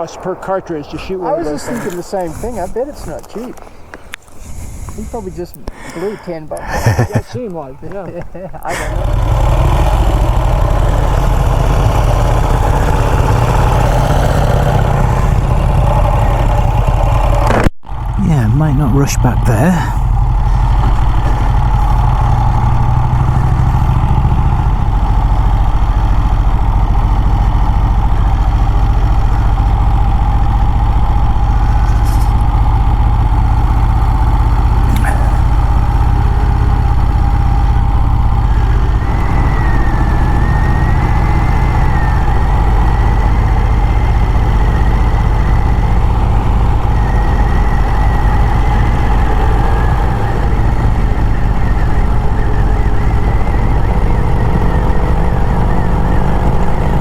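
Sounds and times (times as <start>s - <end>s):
motorcycle engine running: 6.9s - 57.0s.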